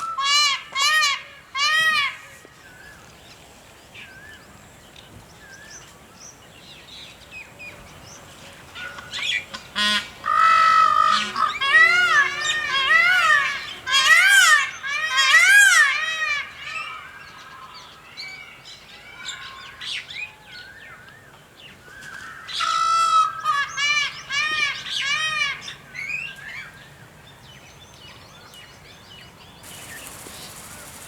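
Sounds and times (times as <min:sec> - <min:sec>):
songbirds singing: 0:02.4 - 0:15.7, 0:16.5 - 0:31.0.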